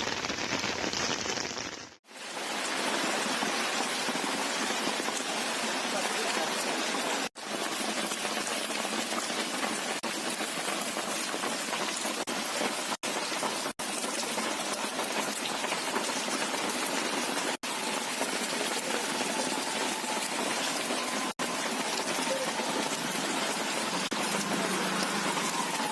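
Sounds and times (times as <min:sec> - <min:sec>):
heavy rain: 0:00.0 - 0:25.9.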